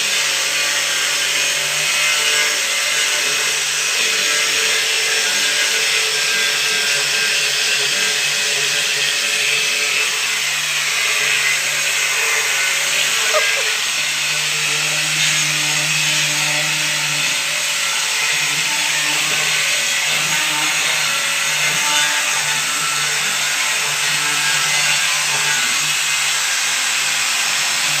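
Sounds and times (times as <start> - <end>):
woodworking power tool running: 0.0 - 28.0.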